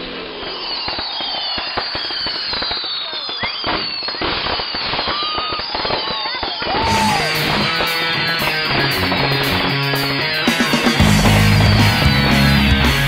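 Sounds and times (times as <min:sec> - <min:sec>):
fireworks crackling pops: 0:00.0 - 0:11.0
firework whistles: 0:00.0 - 0:12.5.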